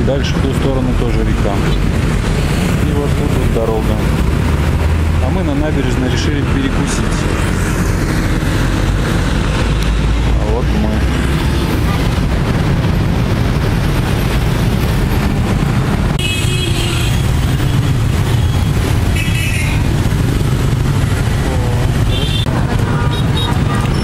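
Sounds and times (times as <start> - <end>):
motorbikes and cars passing: 0.0 - 24.0.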